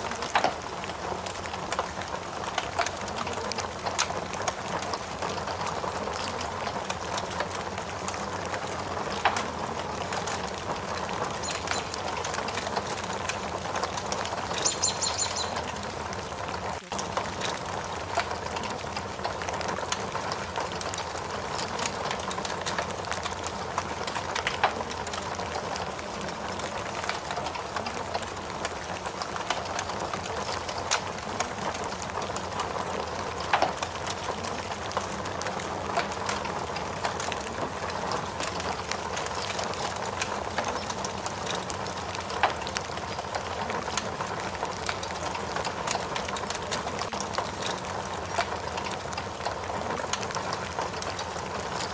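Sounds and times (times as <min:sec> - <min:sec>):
crackling fire with sharp pops: 0:00.0 - 0:51.9
steady rain hiss: 0:00.0 - 0:51.9.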